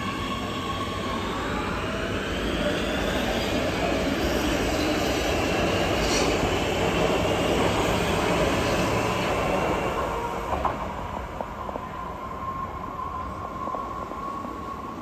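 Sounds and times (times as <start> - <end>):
metro train rumbling past: 0.0 - 15.0.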